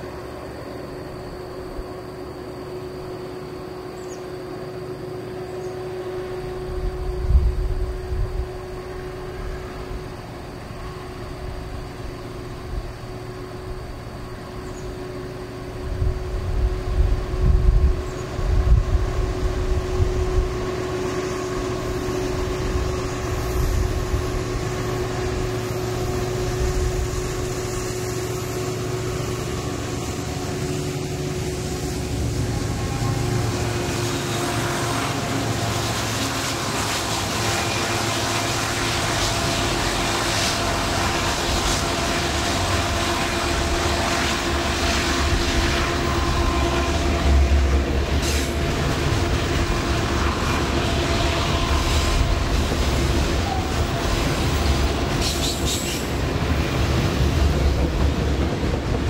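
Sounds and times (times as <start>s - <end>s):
diesel locomotive engine hum: 0.0s - 59.0s
train noise hiss: 0.0s - 59.0s.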